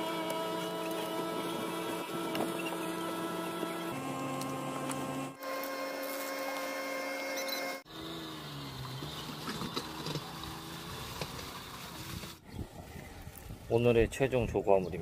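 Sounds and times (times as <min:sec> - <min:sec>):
engine hum: 0:00.0 - 0:12.4.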